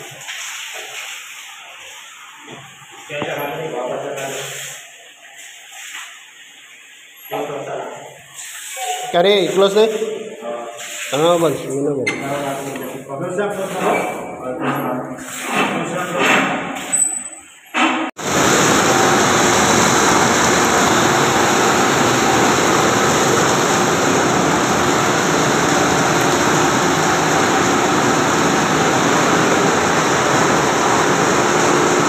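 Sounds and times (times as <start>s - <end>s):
water pump running: 0.0s - 17.1s, 18.2s - 32.0s.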